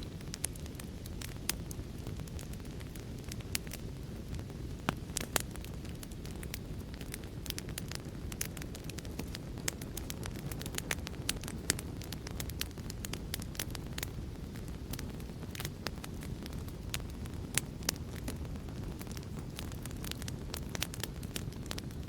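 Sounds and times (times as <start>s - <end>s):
fire pops and snaps: 0.0s - 22.0s
low rumble of flames: 0.0s - 22.0s.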